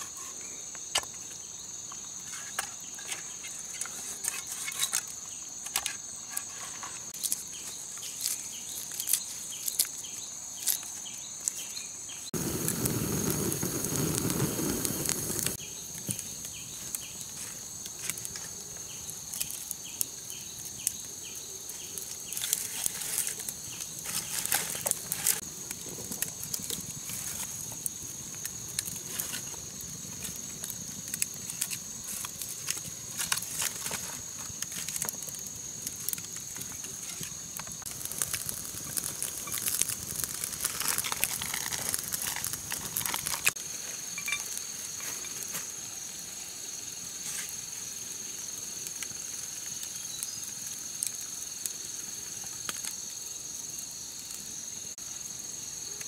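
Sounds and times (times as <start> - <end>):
burning sticks popping: 0.0 - 46.2
wood fire crackling: 2.2 - 54.5.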